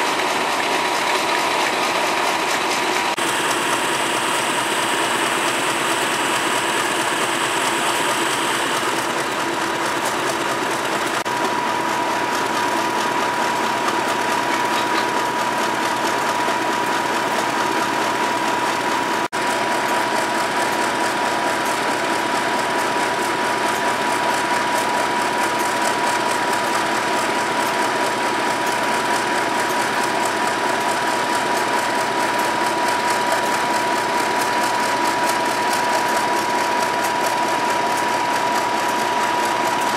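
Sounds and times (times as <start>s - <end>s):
diesel locomotive engine idling: 0.0s - 39.9s.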